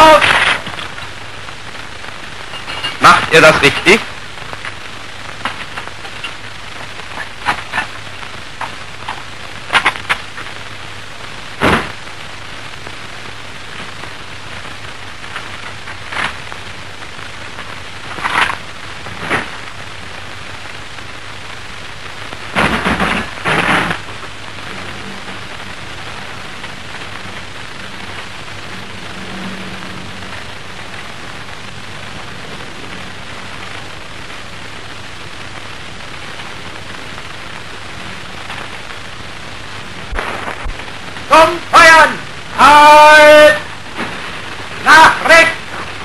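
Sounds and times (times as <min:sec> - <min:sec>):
film soundtrack hiss: 0:00.0 - 0:46.0.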